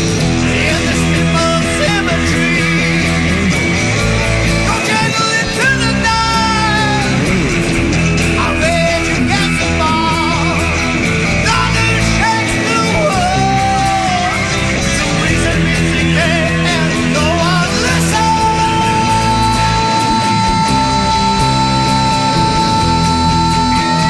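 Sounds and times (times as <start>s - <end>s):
lead guitar bending notes: 0.0s - 24.0s
rock band backing: 0.0s - 24.0s.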